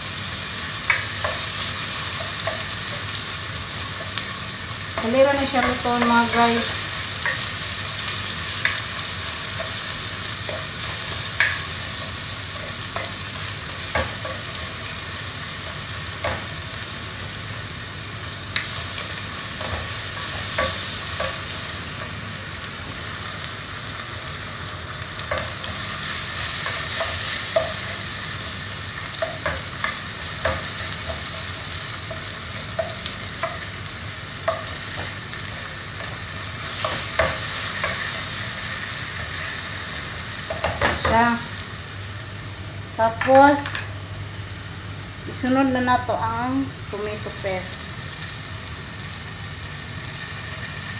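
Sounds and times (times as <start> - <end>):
food sizzling in oil: 0.0 - 50.9.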